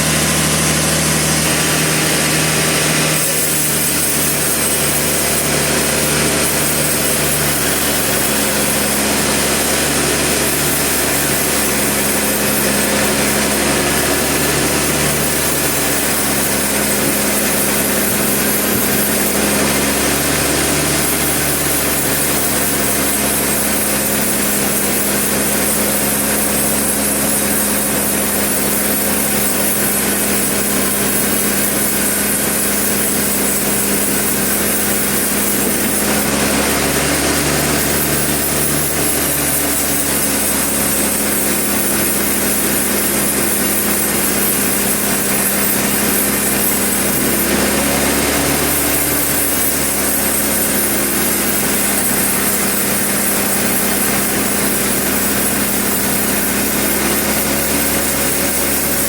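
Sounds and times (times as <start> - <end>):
motor hum: 0.0 - 59.0
saw hissing: 0.0 - 59.0.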